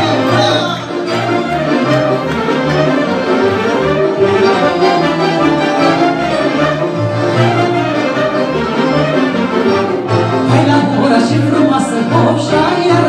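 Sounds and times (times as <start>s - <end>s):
violins and accordions playing: 0.0s - 13.0s.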